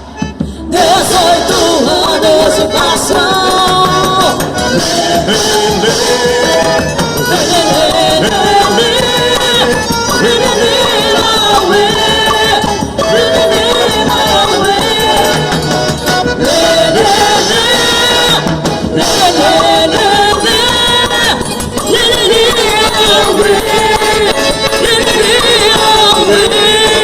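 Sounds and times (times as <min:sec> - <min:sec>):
instrumental folk dance music: 0:00.0 - 0:27.0.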